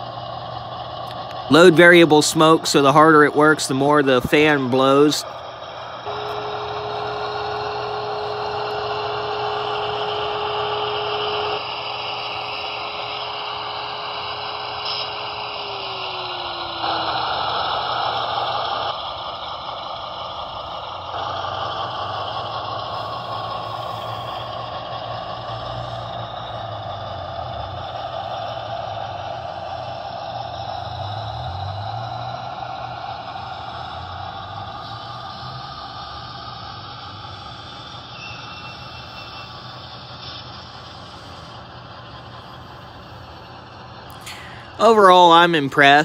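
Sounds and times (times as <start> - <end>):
diesel engine drone: 0.0 - 46.0
engine whine: 0.0 - 46.0.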